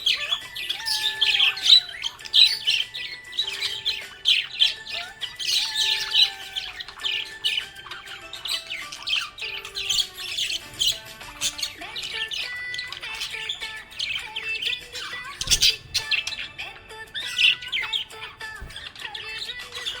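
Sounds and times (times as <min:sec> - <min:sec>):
budgerigars chirping and warbling: 0:00.0 - 0:20.0.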